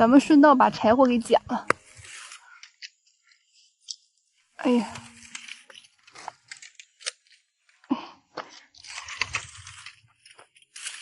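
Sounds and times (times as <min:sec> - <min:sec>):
twigs crunching and rustling: 0:00.1 - 0:11.0.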